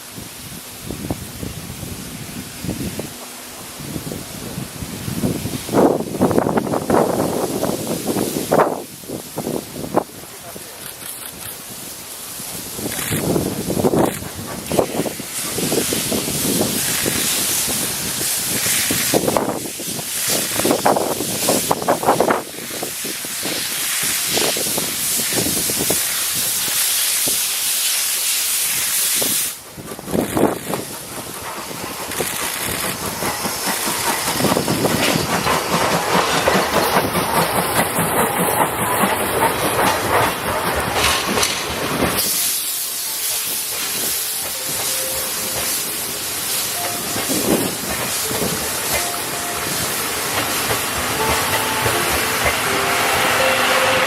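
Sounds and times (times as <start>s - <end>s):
steam hissing: 0.0s - 54.0s
train running noise: 0.0s - 54.0s.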